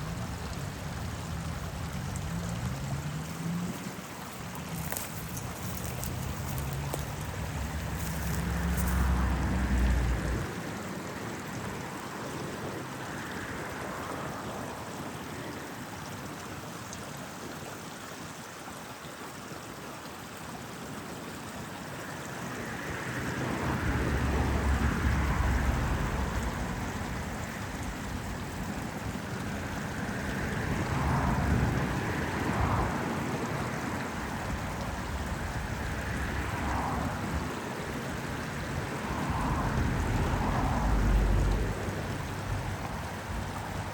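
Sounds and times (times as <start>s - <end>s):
road traffic rumble: 0.0s - 16.5s, 21.8s - 43.9s
stream running over stones: 0.0s - 43.9s.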